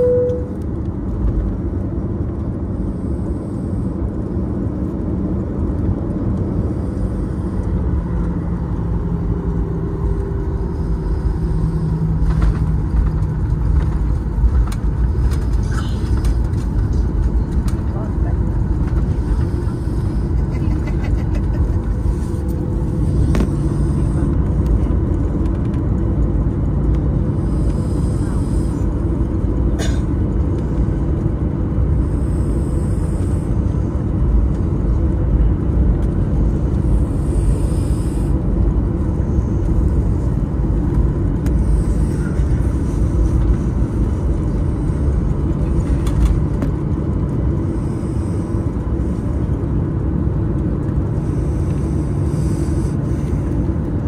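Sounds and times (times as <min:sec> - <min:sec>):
faint steady hum: 0:00.0 - 0:01.6, 0:02.2 - 0:54.0
jet engines at taxi power: 0:00.0 - 0:54.0.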